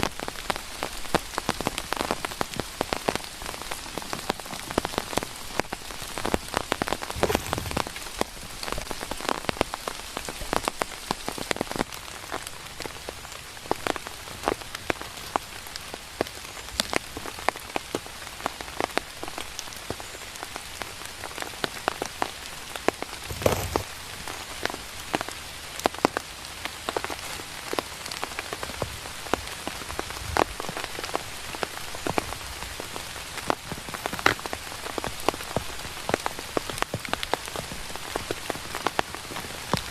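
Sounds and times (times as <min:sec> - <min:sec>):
rain hiss: 0:00.0 - 0:39.9
raindrops ticking: 0:00.0 - 0:39.9.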